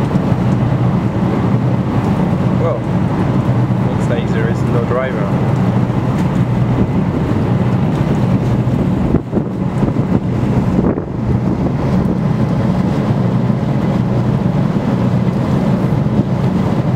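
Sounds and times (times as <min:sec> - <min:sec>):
boat engine droning: 0:00.0 - 0:16.9
wind buffeting microphone: 0:00.0 - 0:16.9.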